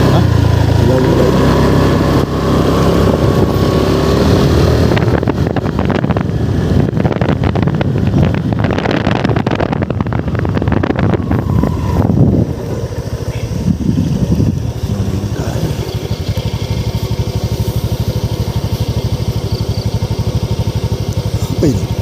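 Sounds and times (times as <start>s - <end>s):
wind buffeting microphone: 0.0s - 20.8s
motorcycle engine running: 0.0s - 22.0s.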